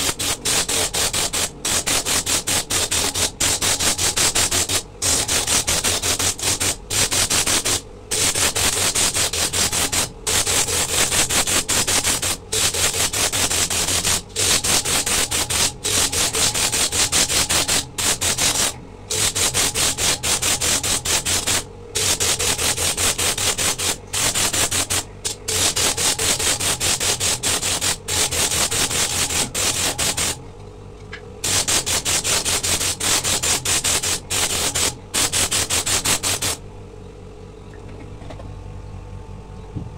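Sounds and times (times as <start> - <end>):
shell grinding on sanding disc: 0.0 - 30.4, 31.4 - 36.6.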